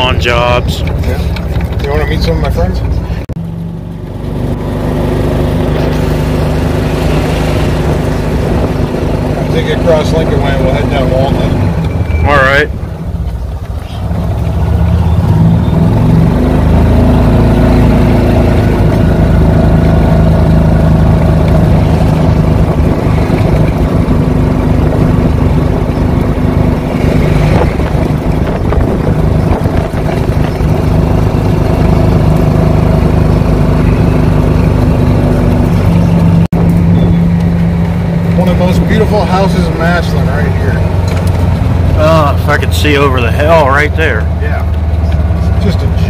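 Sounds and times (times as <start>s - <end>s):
rumbling road noise: 0.0s - 46.0s
golf cart motor drone: 3.4s - 42.8s.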